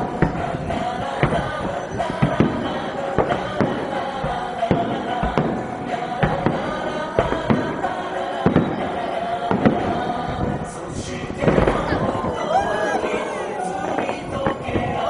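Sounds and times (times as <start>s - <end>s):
fireworks bangs: 0.0s - 15.0s
music with singing over loudspeakers: 0.0s - 15.0s.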